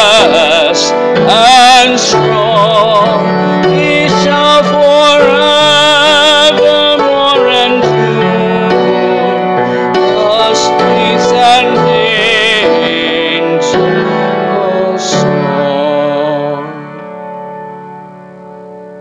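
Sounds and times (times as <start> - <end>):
man singing a hymn: 0.0 - 17.1
piano accompaniment: 0.0 - 19.0.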